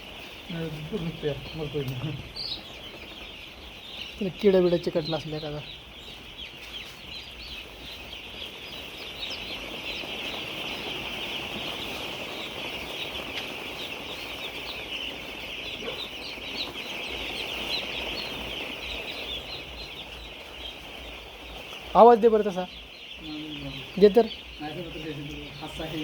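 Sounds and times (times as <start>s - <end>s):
poultry flock calling: 0.0s - 26.0s.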